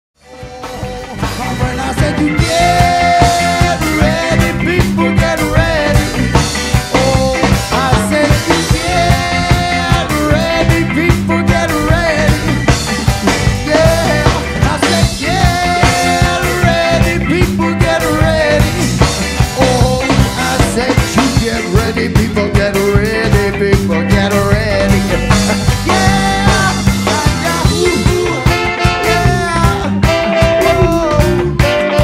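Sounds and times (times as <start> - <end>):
band music with drum beat: 0.2 - 32.0.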